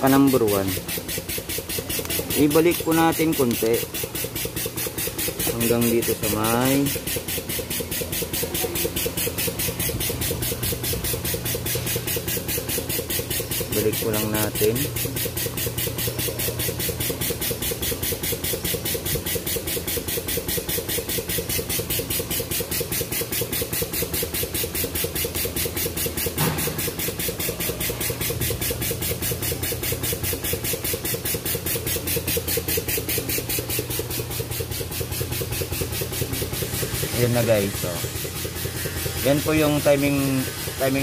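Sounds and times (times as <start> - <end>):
engine running with pulsing beat: 0.0 - 41.0.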